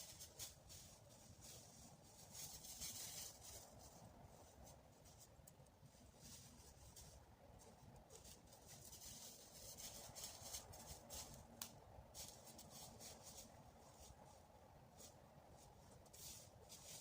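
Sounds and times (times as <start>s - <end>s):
scratchy rustling and crackling: 0.0s - 17.0s.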